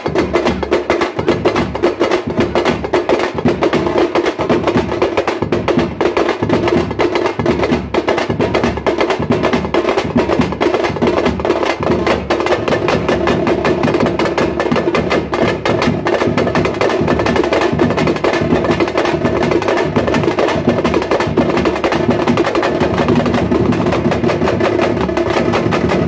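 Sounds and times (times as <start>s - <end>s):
drums beaten with sticks: 0.0s - 26.0s.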